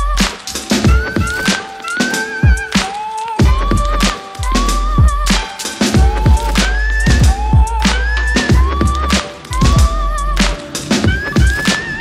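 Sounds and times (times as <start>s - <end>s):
snare and hi-hat hits: 0.0s - 12.0s.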